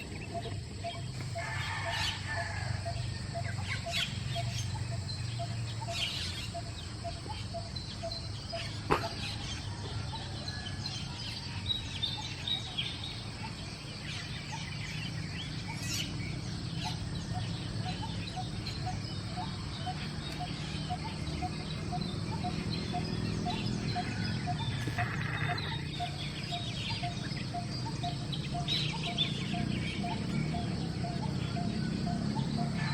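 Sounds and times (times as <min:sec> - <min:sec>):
starlings chirping and calling: 0:00.0 - 0:32.9.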